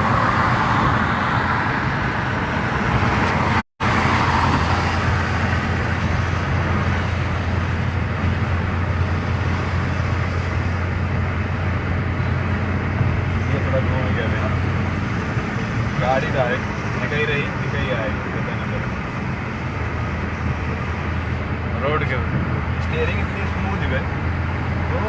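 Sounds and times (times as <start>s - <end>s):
car engine hum: 0.0s - 25.0s
tyre road noise: 0.0s - 25.0s.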